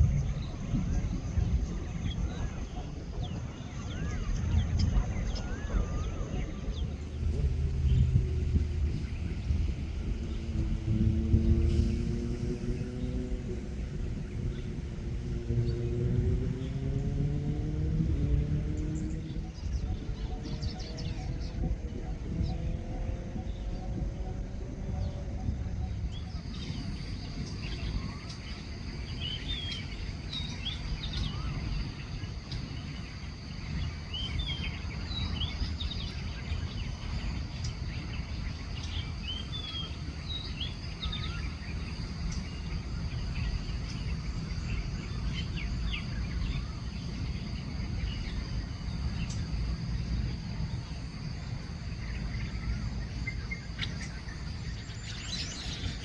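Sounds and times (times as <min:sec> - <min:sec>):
birds chirping: 0:00.0 - 0:56.0
insect drone: 0:00.0 - 0:56.0
low steady rumble: 0:00.0 - 0:56.0.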